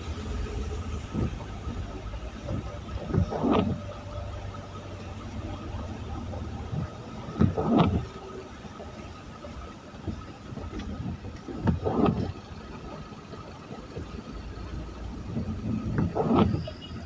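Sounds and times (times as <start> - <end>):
vehicles passing on wet road: 0.0 - 17.0.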